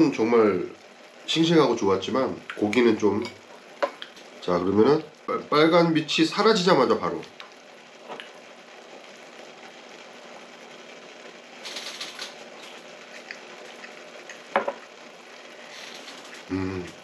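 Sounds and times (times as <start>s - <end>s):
broth bubbling in a pot: 0.0s - 17.0s.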